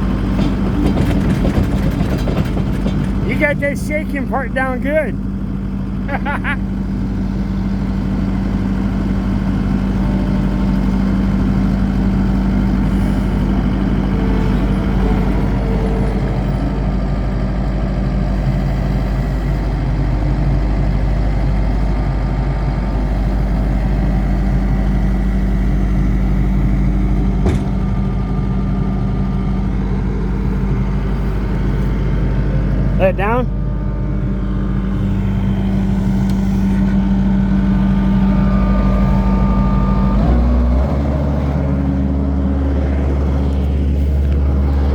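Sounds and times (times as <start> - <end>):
loader engine running: 0.0 - 44.9.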